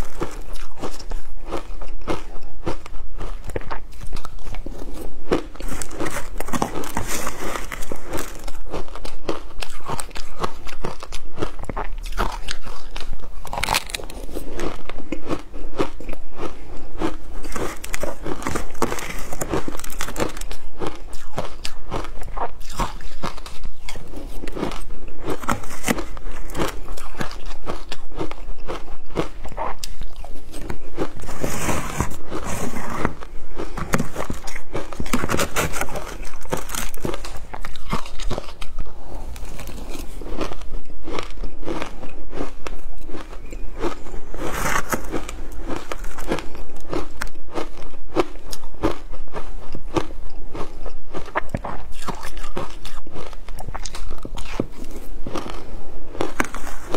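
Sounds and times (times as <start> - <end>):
person chewing shaved ice: 0.0 - 56.9.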